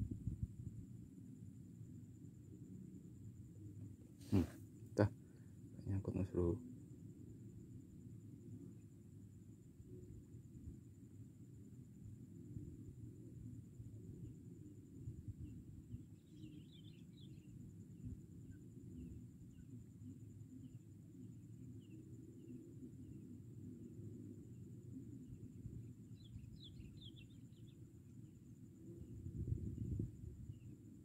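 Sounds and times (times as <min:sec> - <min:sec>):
low steady rumble: 0:00.0 - 0:06.2, 0:06.8 - 0:31.0.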